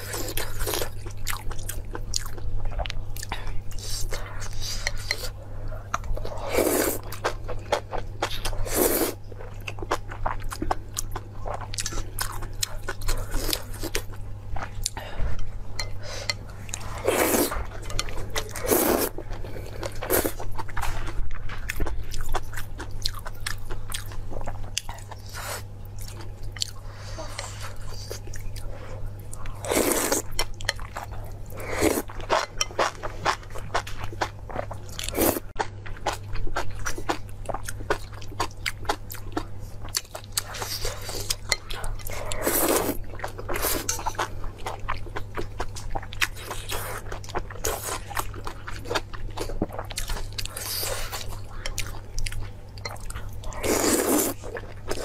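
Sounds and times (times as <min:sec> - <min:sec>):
chewing and crunching: 0:00.0 - 0:15.1, 0:16.3 - 0:55.0.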